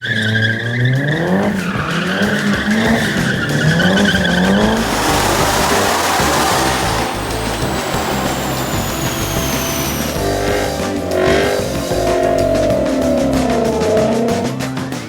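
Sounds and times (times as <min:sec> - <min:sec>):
sports car engine revving: 0:00.0 - 0:15.0.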